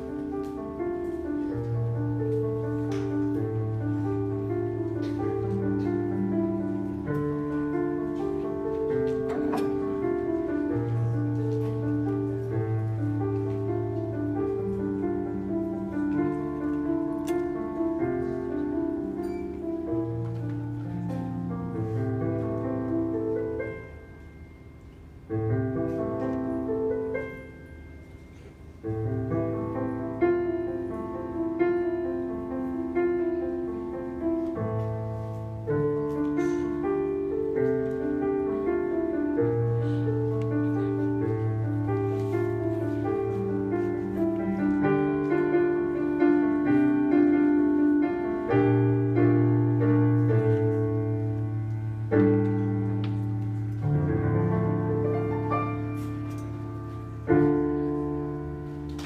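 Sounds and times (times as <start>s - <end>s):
slow piano chords: 0.0s - 59.0s.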